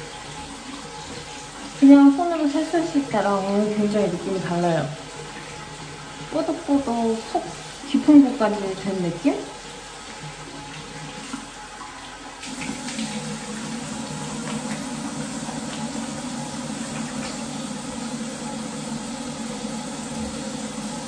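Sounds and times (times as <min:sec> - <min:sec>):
tap water running into sink: 0:00.0 - 0:21.0.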